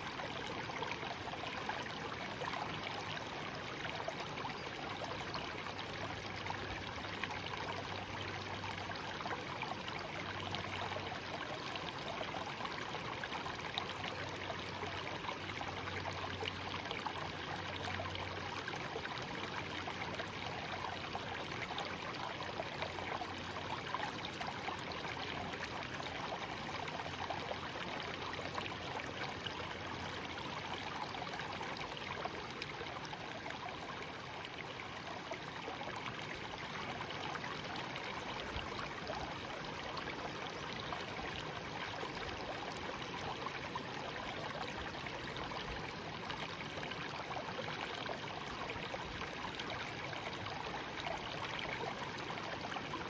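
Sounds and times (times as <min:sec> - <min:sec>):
stream babbling over stones: 0:00.0 - 0:53.0.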